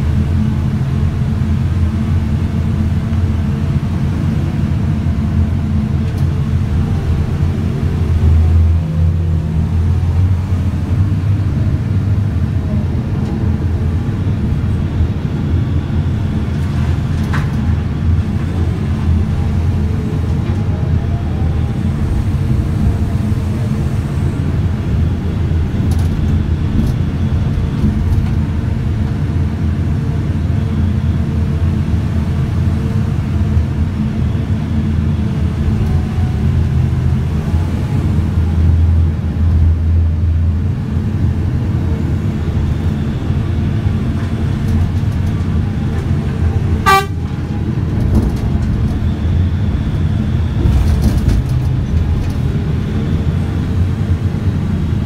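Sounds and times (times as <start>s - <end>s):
excavator machine drone: 0.0s - 55.0s.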